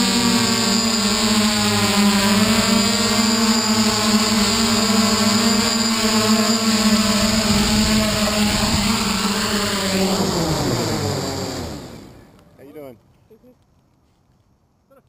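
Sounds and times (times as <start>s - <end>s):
drone motors humming: 0.0s - 12.6s.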